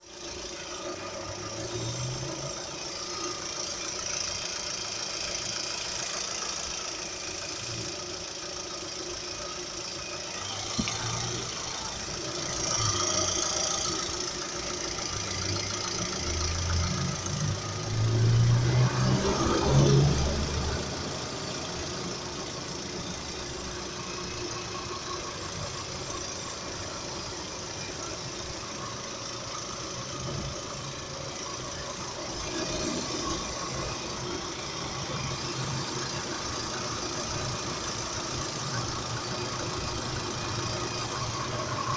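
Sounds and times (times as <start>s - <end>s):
car engine idling with knock: 0.0s - 18.0s, 19.1s - 41.9s.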